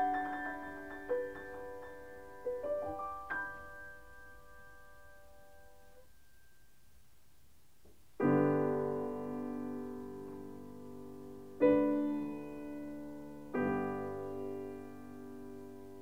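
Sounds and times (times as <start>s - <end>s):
slow piano chords ringing: 0.0s - 6.8s, 8.2s - 16.0s.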